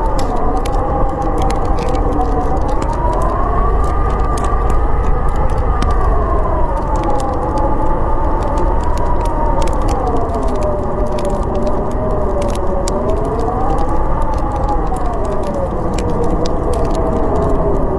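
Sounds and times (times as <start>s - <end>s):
storm wind howling: 0.0s - 17.9s
wood fire crackling: 0.0s - 17.9s.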